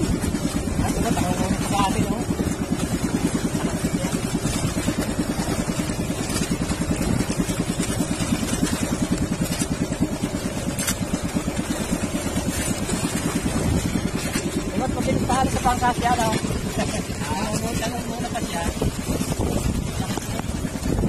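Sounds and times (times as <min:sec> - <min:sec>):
boat engine running: 0:00.0 - 0:21.0
water splashing along hull: 0:00.0 - 0:21.0.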